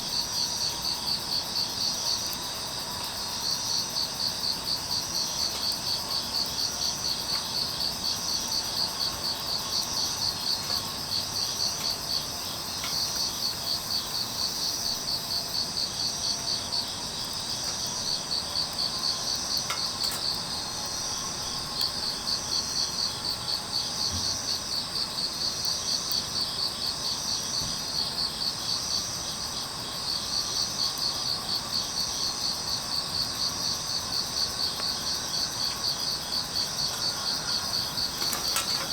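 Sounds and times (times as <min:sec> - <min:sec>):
crickets chirping: 0:00.0 - 0:38.9
high insect trill: 0:00.0 - 0:38.9.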